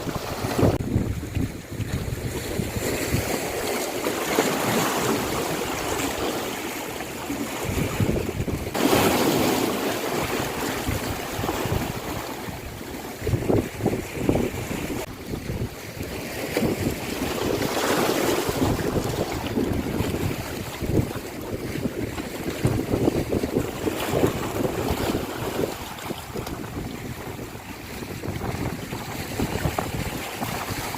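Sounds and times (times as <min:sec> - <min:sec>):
sea waves breaking: 0:00.0 - 0:30.9
wind buffeting microphone: 0:00.0 - 0:30.9.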